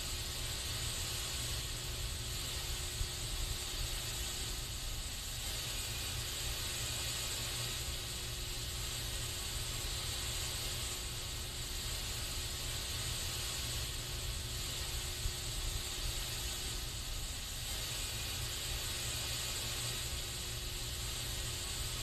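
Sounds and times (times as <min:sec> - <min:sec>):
aerosol spray can hissing: 0:00.0 - 0:22.0.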